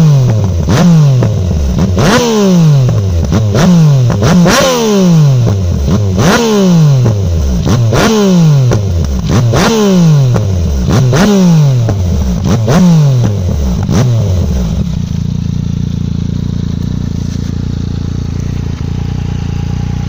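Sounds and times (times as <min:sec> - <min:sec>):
motorcycle engine idling: 0:00.0 - 0:20.0
motorcycle engine revving: 0:00.0 - 0:20.0.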